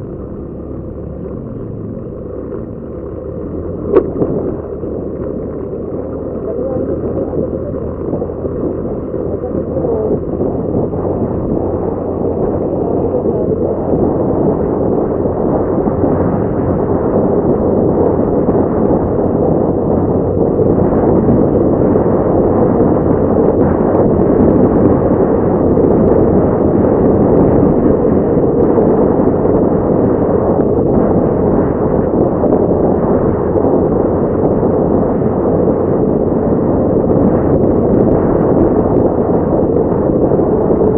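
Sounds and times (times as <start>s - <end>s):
motorcycle engine: 0.0s - 40.9s
road noise: 0.0s - 40.9s
wind buffeting microphone: 0.0s - 40.9s.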